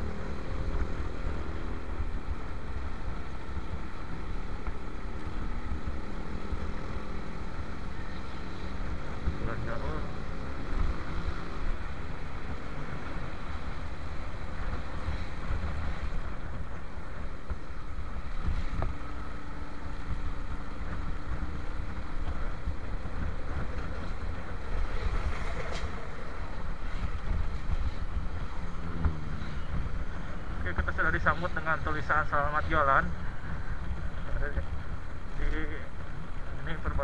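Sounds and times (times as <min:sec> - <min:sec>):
motorcycle engine: 0:00.0 - 0:37.0
road noise: 0:00.0 - 0:37.0
wind rushing over microphone: 0:00.0 - 0:37.0.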